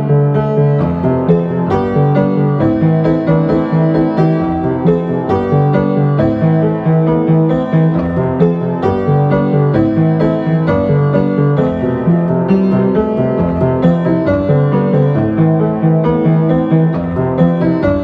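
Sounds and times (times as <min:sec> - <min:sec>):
solo piano piece: 0:00.0 - 0:18.0.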